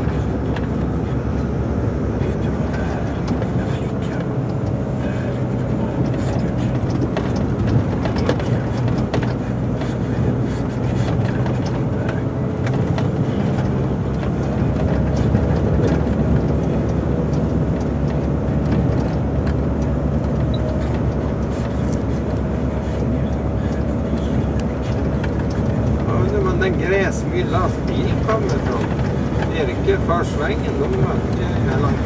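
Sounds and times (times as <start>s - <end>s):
diesel truck engine running: 0.0s - 32.0s
road and plow noise: 0.0s - 32.0s
light clicks and rattles: 5.8s - 32.0s.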